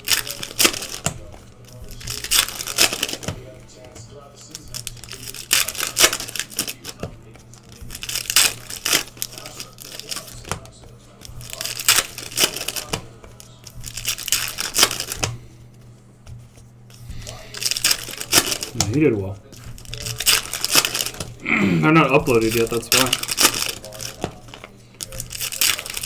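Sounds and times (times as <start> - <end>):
card packs tearing open: 0.0 - 15.5, 16.9 - 26.0
wrappers crinkling: 0.0 - 26.0.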